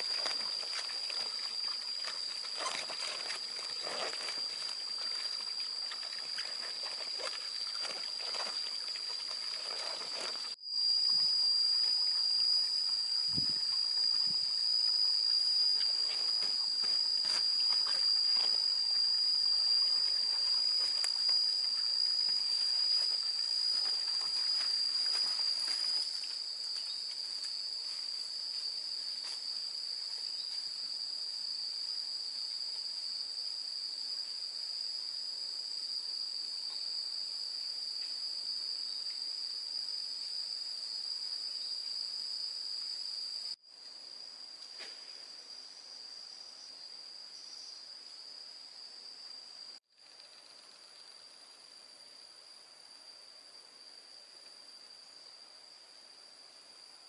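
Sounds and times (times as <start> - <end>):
shrill insect chorus: 0.0 - 57.0.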